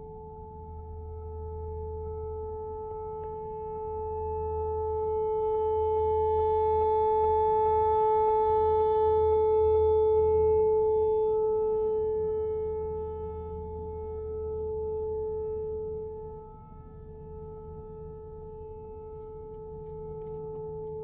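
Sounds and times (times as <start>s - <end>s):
warning siren steady tone: 0.0s - 21.0s.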